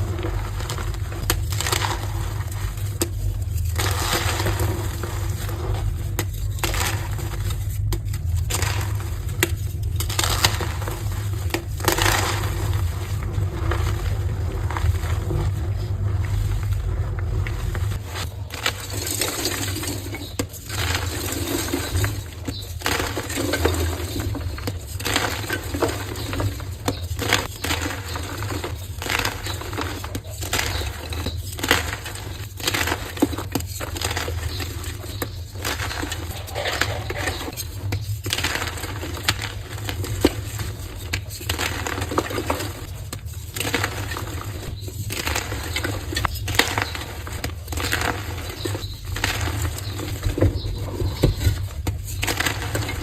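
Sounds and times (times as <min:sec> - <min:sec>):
chalk crunching by hand: 0:00.0 - 0:53.0.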